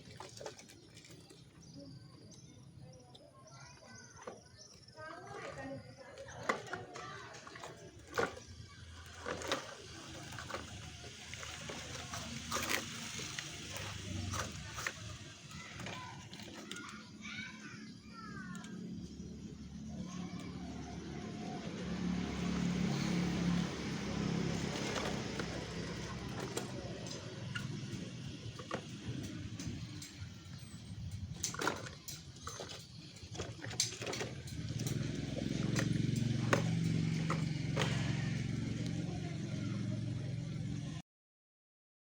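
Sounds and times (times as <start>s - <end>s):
excavator engine running: 4.0s - 41.0s.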